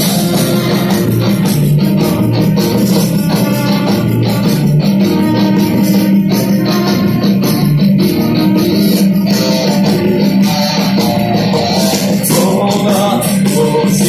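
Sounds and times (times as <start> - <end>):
live heavy metal band playing: 0.0 - 14.0.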